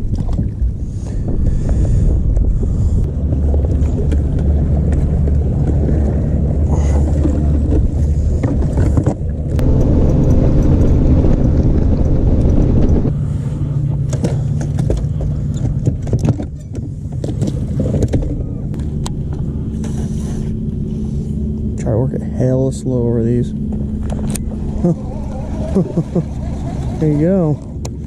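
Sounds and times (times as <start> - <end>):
boat motor humming: 0.0 - 28.0
wind rumble on microphone: 0.0 - 28.0.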